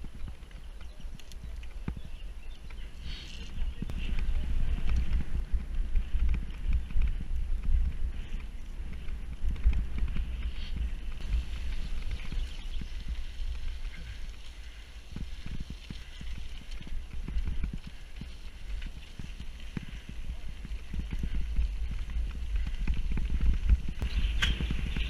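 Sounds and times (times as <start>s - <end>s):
bike rolling over dirt track: 3.7s - 25.0s.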